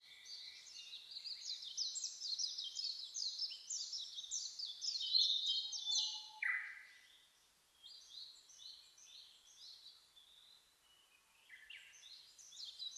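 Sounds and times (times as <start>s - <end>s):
birds chirping: 0.2s - 12.9s.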